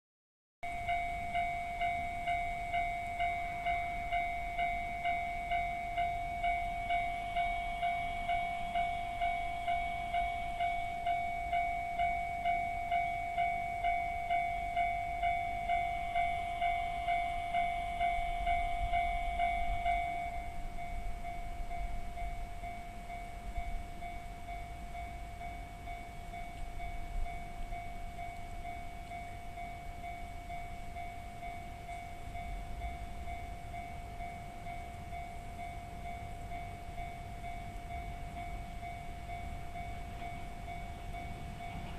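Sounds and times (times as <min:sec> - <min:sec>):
electronic level-crossing bell dings: 0:00.6 - 0:41.9
passing train rumble: 0:00.6 - 0:41.9.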